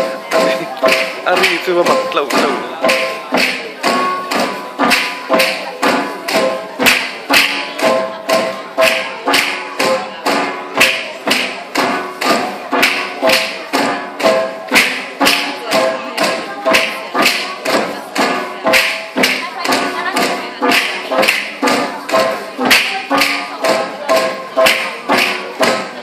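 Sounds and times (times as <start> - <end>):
bamboo poles clacking: 0.0 - 26.0
music: 0.0 - 26.0.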